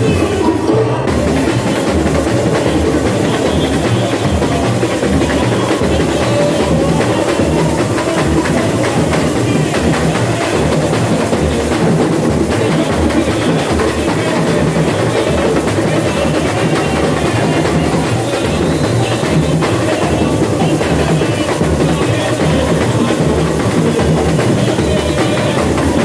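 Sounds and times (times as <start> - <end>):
samba drums and percussion: 0.0 - 26.0.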